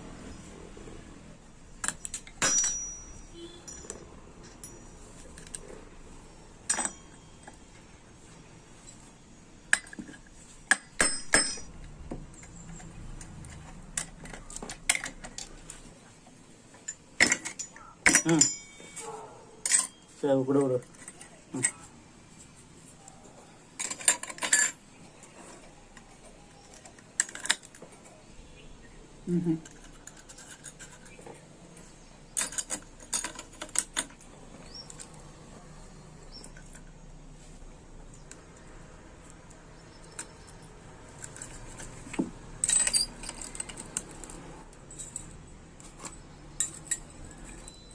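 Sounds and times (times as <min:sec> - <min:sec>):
metal parts clicking and scraping: 0:01.4 - 0:21.9, 0:23.0 - 0:28.4, 0:29.5 - 0:47.9
metal tools clinking: 0:01.6 - 0:21.9, 0:23.7 - 0:28.6, 0:29.6 - 0:47.9.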